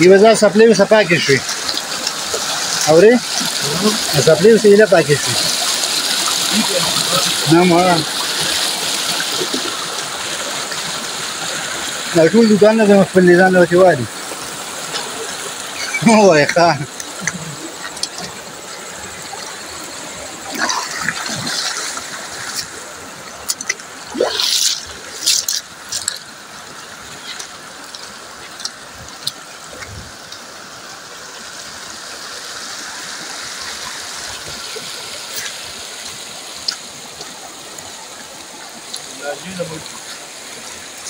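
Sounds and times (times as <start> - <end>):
stream flowing over rocks: 0.0 - 41.0.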